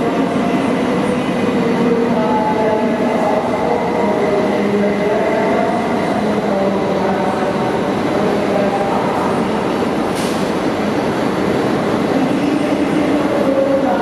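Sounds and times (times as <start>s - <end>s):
train cooling fans whirring: 0.0s - 14.0s.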